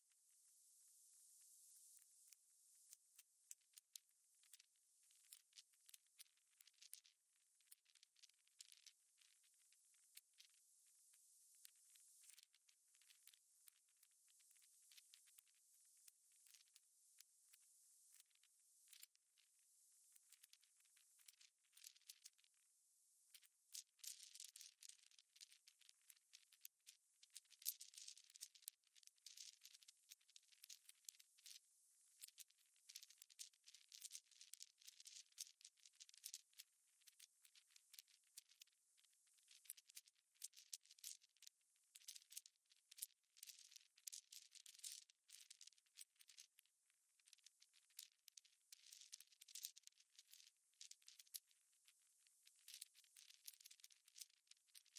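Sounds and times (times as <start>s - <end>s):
faint high crackling and ticking: 0.0s - 54.9s.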